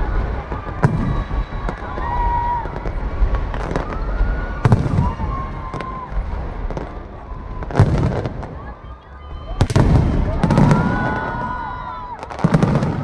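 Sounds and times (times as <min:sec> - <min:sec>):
faint crowd voices: 0:00.0 - 0:13.0
fireworks bursting with booms: 0:00.0 - 0:13.0
fireworks crackle: 0:00.0 - 0:13.0.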